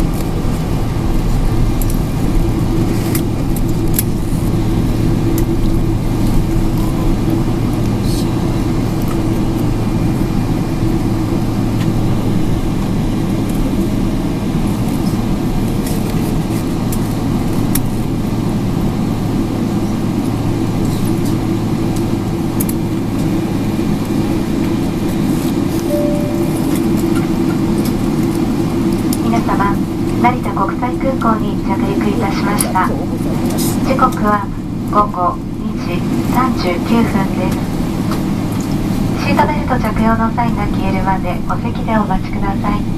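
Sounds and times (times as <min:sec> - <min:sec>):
airliner cabin engine hum: 0:00.0 - 0:42.9.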